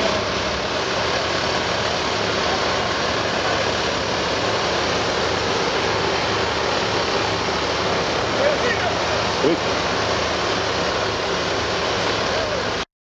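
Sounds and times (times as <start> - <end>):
machine engine running steadily: 0.0 - 12.9.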